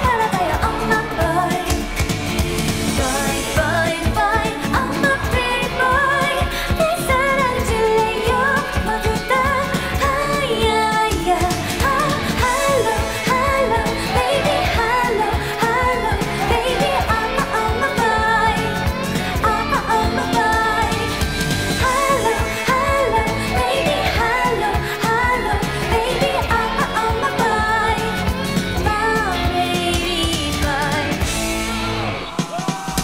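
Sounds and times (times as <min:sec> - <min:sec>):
person singing: 0:00.0 - 0:02.0, 0:02.9 - 0:31.3
pop backing track: 0:00.0 - 0:33.0.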